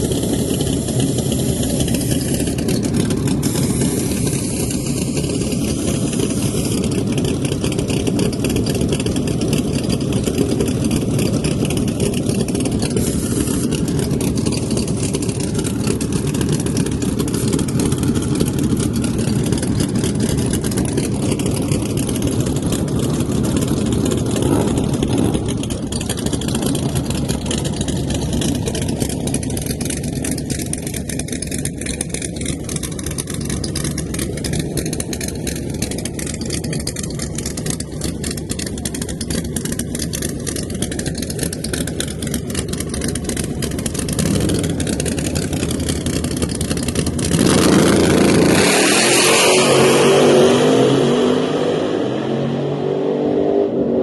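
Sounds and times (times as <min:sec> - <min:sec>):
drag car engine pulsing: 0:00.0 - 0:52.3.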